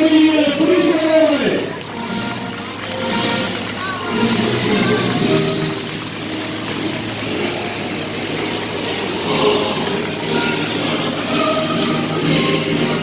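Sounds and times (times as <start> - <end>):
propeller aircraft droning overhead: 0.0 - 13.0.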